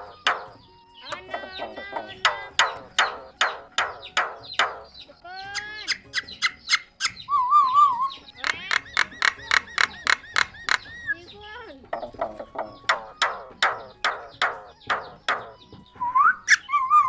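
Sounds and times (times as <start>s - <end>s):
myna harsh calls: 0.0s - 17.0s
myna whistles: 0.0s - 17.0s.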